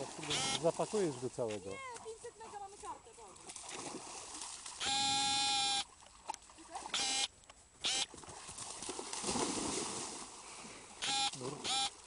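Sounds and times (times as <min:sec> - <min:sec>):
dogs splashing through water: 0:00.0 - 0:07.1, 0:08.1 - 0:12.0.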